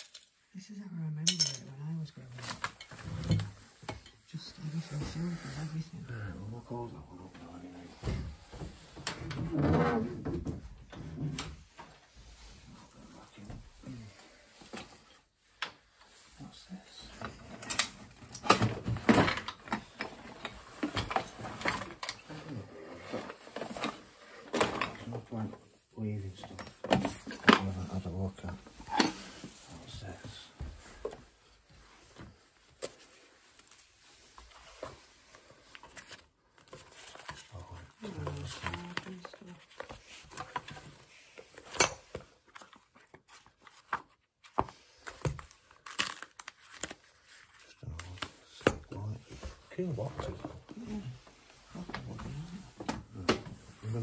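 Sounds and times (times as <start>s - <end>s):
rummaging through cupboard clutter: 1.1s - 54.0s.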